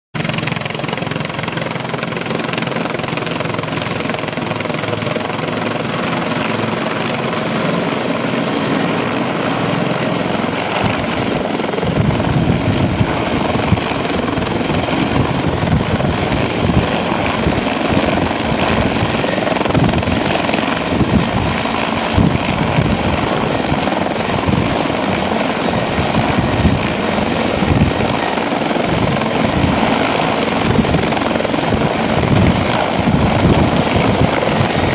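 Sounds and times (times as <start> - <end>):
helicopter rotor and turbines: 0.2 - 34.9
high turbine whine: 0.2 - 34.9.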